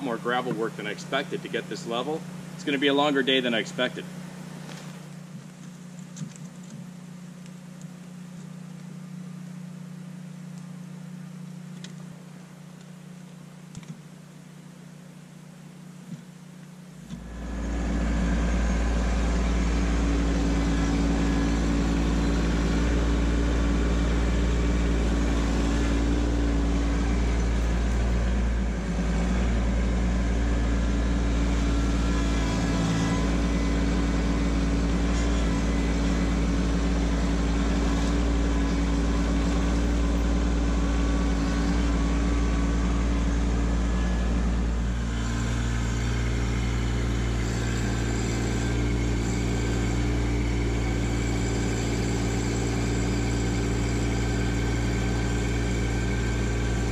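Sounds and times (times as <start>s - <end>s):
loader scooping gravel: 0.0s - 6.8s, 17.2s - 56.9s
tractor diesel engine running: 0.0s - 56.9s.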